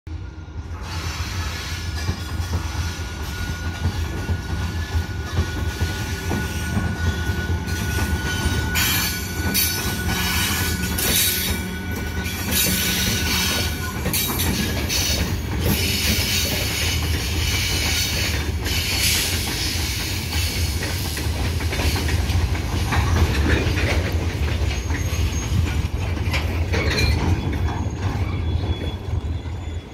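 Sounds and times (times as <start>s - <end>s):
freight train rumbling past: 0.1s - 29.9s
wheels clacking over rail joints: 1.8s - 29.8s.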